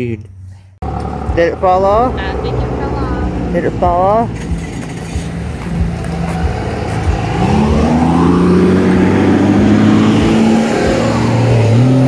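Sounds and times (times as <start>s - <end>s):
vehicle engine revving: 0.8s - 12.0s.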